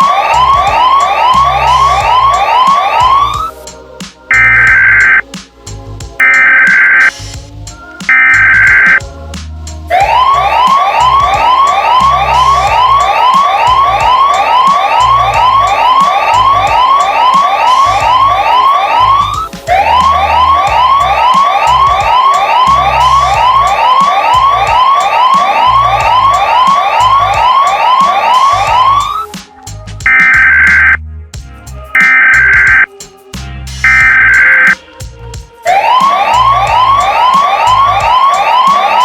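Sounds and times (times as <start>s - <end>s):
electronic emergency siren: 0.0s - 3.6s, 4.3s - 5.2s, 6.2s - 7.1s, 8.1s - 9.0s, 9.9s - 29.3s, 30.0s - 31.0s, 32.0s - 32.9s, 33.8s - 34.8s, 35.7s - 39.0s.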